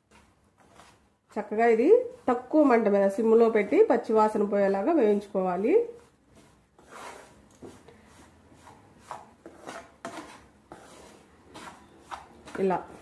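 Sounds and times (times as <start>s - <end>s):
spoon scraping a pan: 1.8s - 13.0s.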